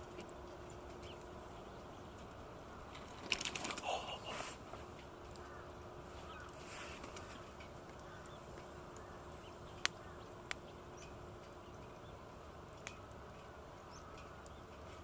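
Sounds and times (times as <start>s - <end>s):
campfire pops: 0.0s - 15.0s
faint steady hiss: 0.0s - 15.0s.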